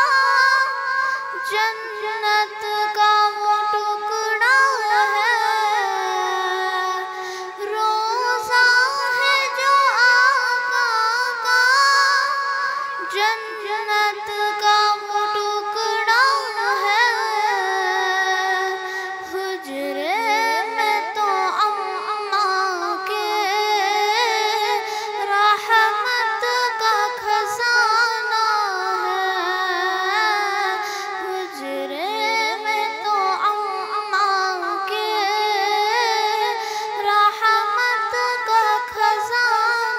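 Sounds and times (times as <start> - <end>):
girl singing devotional song: 0.0 - 39.9.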